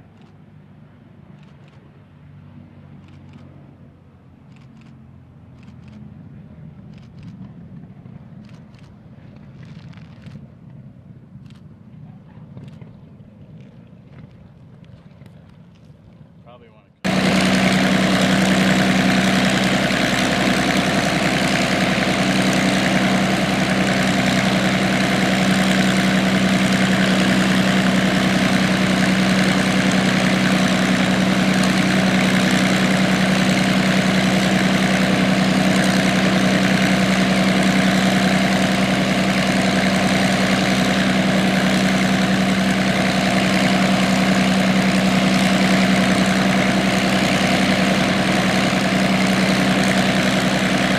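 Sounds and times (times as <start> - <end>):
aircraft engine idling: 3.0 - 15.5, 16.3 - 50.9.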